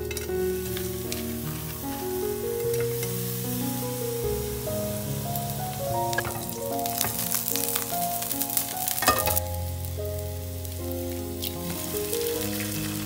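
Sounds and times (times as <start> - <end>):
calm background music: 0.0 - 13.0
oil sizzling in frying pan: 0.0 - 13.0.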